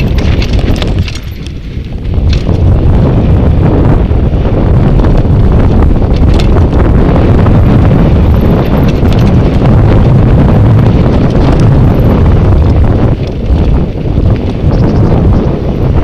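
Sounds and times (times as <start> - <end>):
tyres rolling over dirt and rock: 0.0 - 3.4, 4.8 - 15.4
bike rattles and knocks: 0.0 - 16.0
wind buffeting microphone: 0.0 - 16.0.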